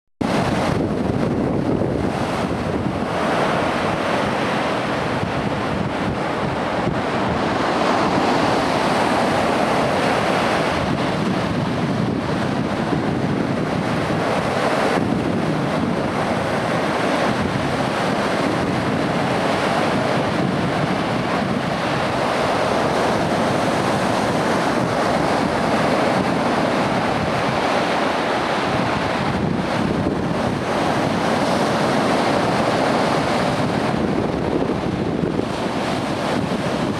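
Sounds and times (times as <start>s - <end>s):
waves breaking on rocks: 0.2s - 36.9s
wind buffeting microphone: 0.2s - 36.9s.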